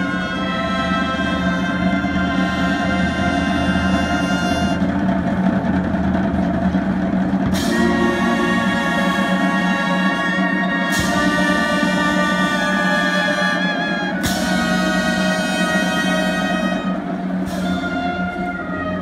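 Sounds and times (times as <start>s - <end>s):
brass band playing funeral march: 0.0s - 5.7s, 7.0s - 19.0s
snare drum: 0.0s - 19.0s.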